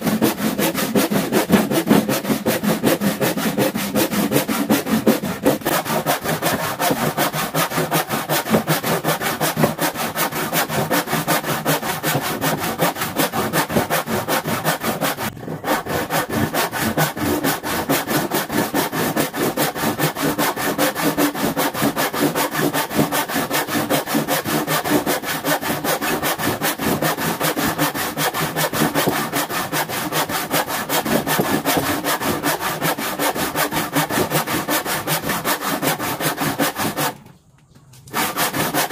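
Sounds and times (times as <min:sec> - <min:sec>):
handsaw cutting wood: 0:00.0 - 0:37.3, 0:38.1 - 0:38.9.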